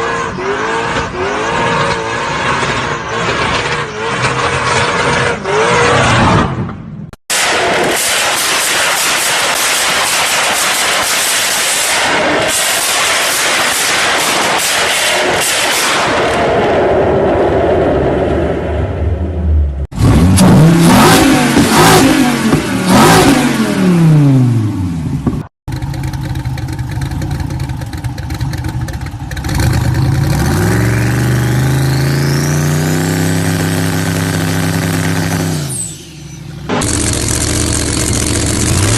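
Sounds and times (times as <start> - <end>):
car engine revving: 0.0 - 6.6, 7.8 - 25.0, 25.7 - 38.9.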